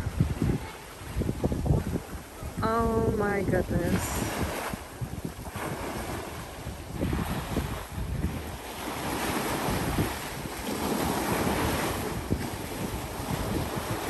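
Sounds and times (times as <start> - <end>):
sea waves washing onto rocks: 0.0 - 14.0
wind buffeting microphone: 0.0 - 14.0.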